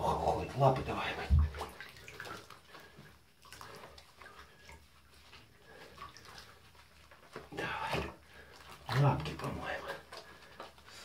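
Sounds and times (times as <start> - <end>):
bathwater sloshing: 0.0 - 11.0.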